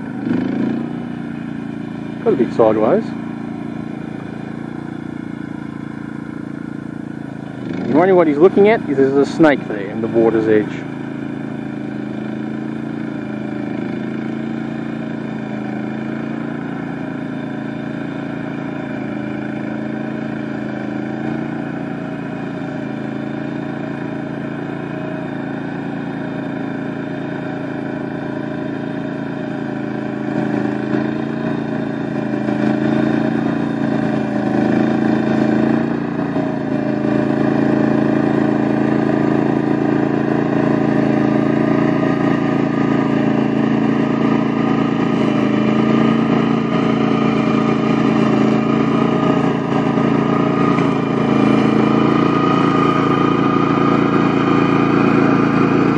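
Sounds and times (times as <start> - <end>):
flail mower cutting grass: 0.0 - 55.9
small tractor engine running: 0.0 - 55.9.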